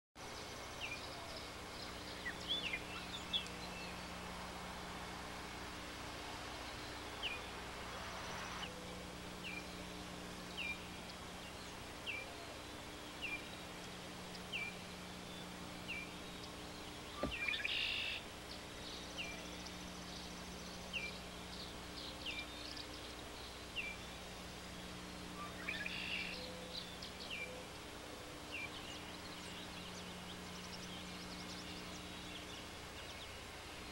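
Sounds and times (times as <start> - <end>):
steady low hum: 0.2 - 33.9.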